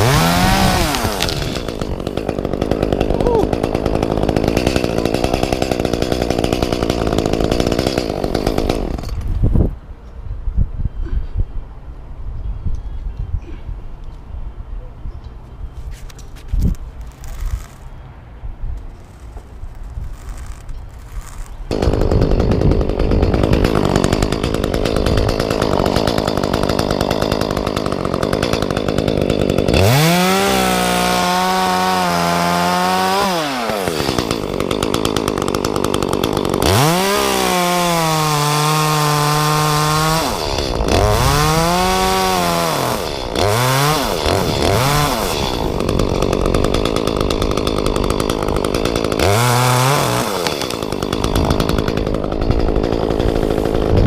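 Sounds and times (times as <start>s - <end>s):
chainsaw revving: 0.0s - 9.4s, 17.0s - 17.9s, 19.0s - 54.0s.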